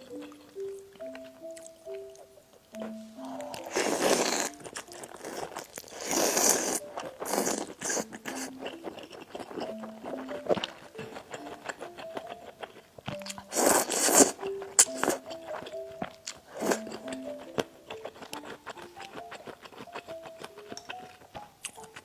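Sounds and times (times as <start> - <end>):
person chewing crunchy food: 0.0 - 22.0
soft background music: 0.0 - 22.0.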